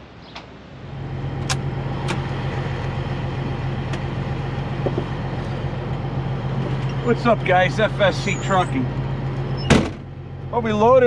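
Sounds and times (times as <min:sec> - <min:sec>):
diesel engine idling: 0:00.8 - 0:11.0.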